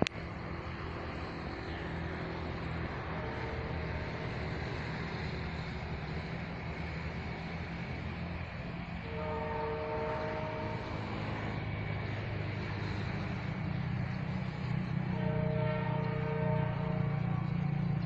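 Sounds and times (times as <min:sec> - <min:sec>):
faint steady tones: 0:00.0 - 0:18.0
passenger train running by: 0:00.0 - 0:18.0.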